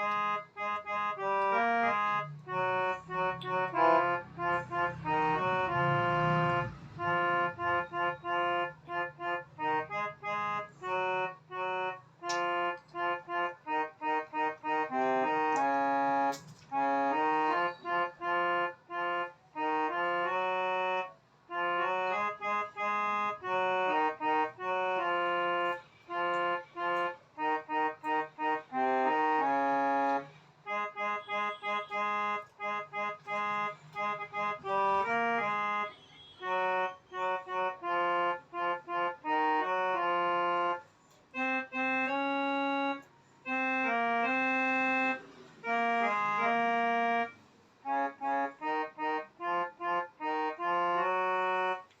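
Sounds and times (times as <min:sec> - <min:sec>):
reedy keyboard melody: 0:00.0 - 0:52.0.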